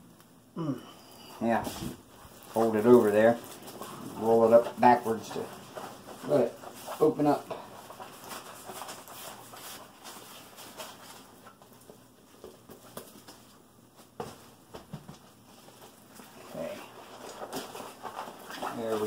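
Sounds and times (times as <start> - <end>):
canvas rustling: 1.4 - 12.3, 13.2 - 19.0.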